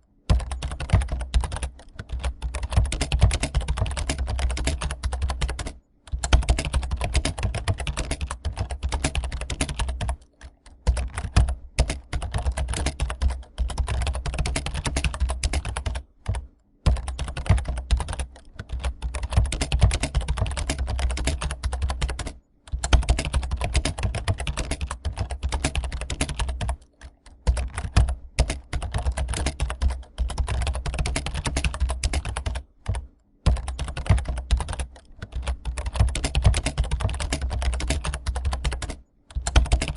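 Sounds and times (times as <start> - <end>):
typing on computer keyboard: 0.3 - 39.9.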